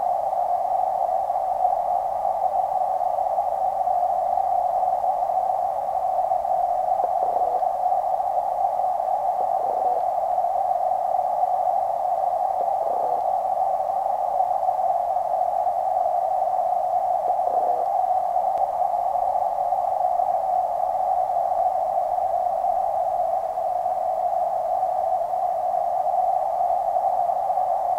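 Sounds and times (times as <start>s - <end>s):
muffled underwater hiss: 0.0s - 27.9s.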